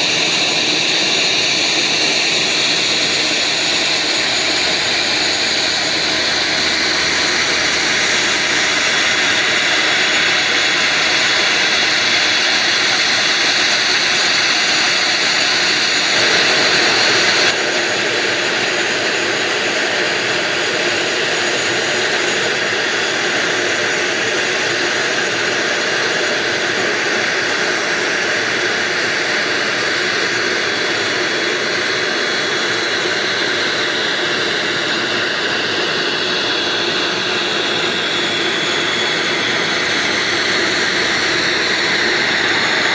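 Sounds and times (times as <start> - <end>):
aircraft turbine engine whine: 0.0 - 42.9.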